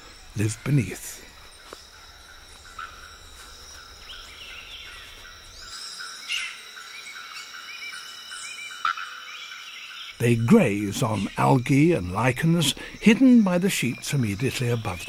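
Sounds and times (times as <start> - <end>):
insects trilling and chirping: 0.0 - 15.0.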